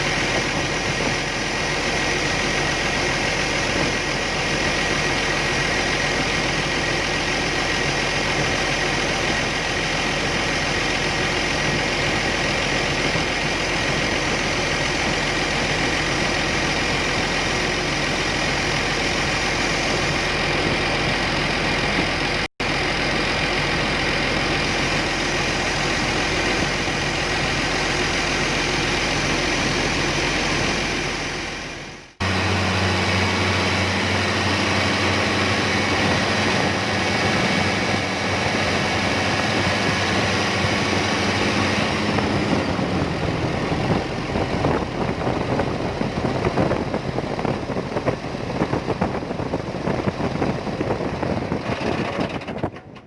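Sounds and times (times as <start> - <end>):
excavator diesel engine idling: 0.0 - 53.0.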